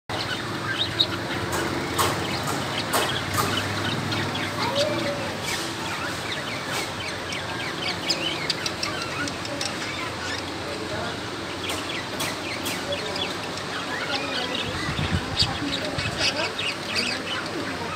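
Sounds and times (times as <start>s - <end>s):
cockatiels chirping: 0.2s - 17.9s.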